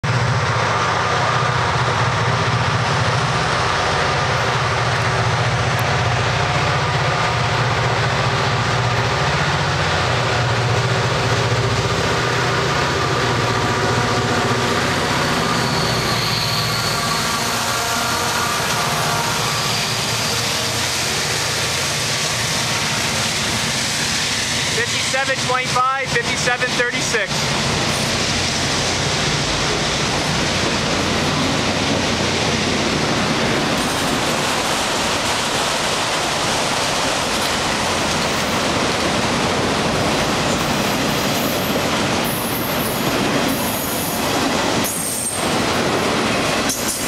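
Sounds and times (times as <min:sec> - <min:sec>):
diesel locomotive passing: 0:00.0 - 0:47.0
freight train wheels rumbling: 0:00.0 - 0:47.0.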